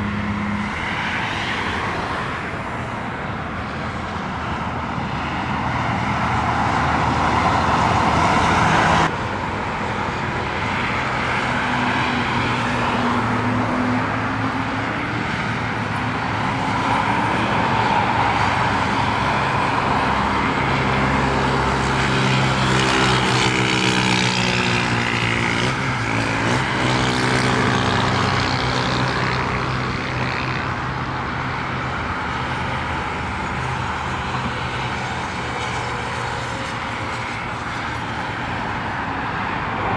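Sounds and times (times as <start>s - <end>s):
jet engine whine: 0.0s - 39.9s
jet engines roaring: 0.0s - 39.9s.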